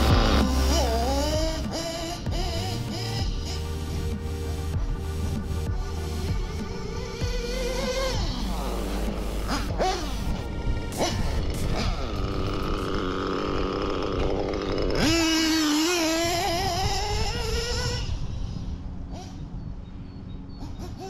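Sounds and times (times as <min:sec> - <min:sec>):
nitro engine revving: 0:00.0 - 0:19.4.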